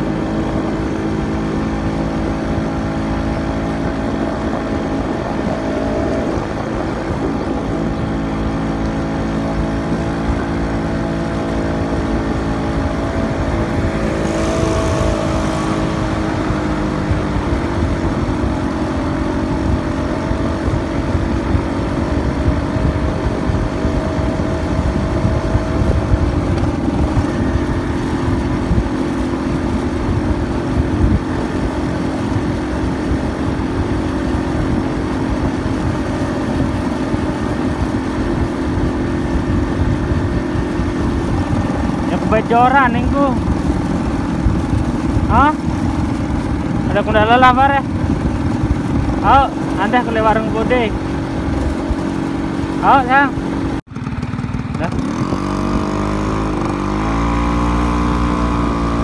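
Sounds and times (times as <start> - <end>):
motorcycle engine running: 0.0 - 59.0
road and wind rumble: 0.0 - 59.0.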